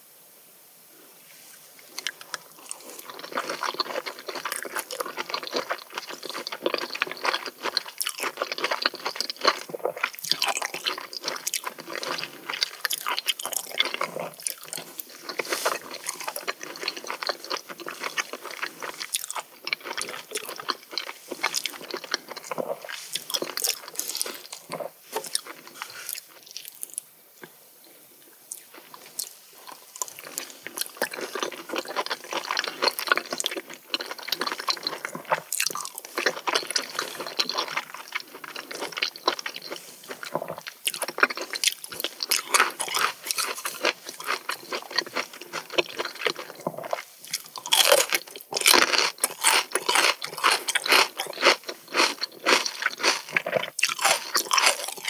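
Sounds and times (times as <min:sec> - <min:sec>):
chewing wet squishy food: 0:01.8 - 0:27.6, 0:28.5 - 0:55.0.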